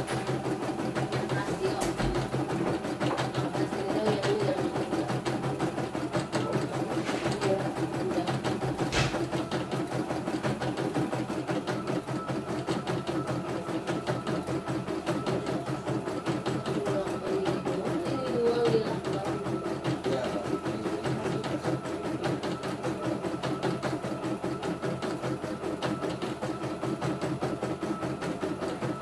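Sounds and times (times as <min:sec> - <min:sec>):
motor hum: 0:00.0 - 0:29.0.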